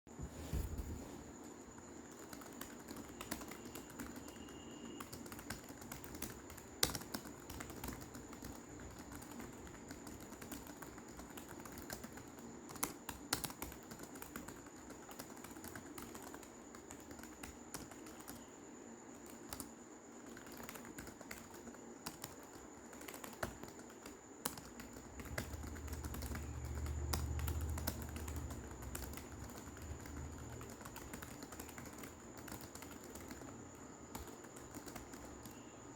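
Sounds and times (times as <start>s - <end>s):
faint high whine: 0.1s - 12.9s, 14.1s - 35.9s
fast typing on keyboard: 1.4s - 18.5s, 19.1s - 35.9s.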